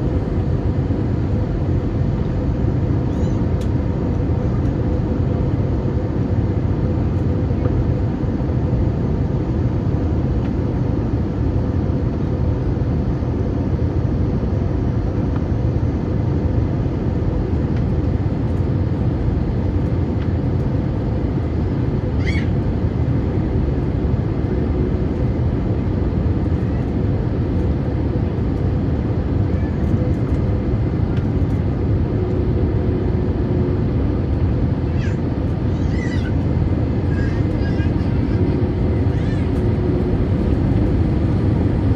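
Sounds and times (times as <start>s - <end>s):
aircraft engine and airflow rumble: 0.0s - 41.9s.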